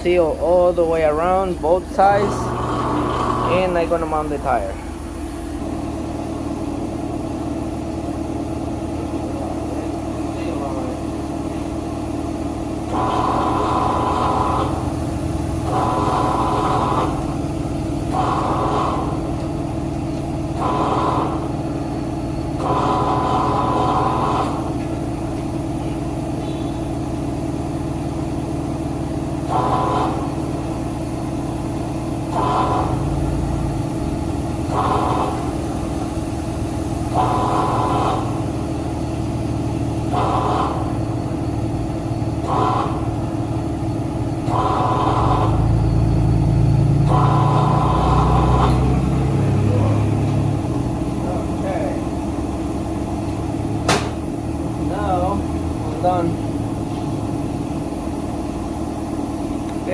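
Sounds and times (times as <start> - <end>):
low mechanical hum: 0.0 - 59.9
tire changer motor whine: 0.0 - 59.9.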